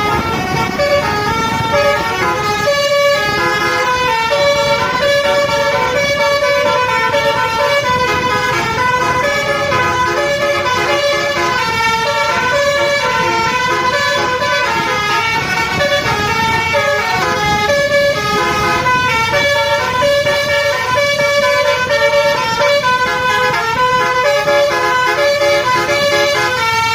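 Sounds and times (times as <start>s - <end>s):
bus air horn tune: 0.0s - 26.9s.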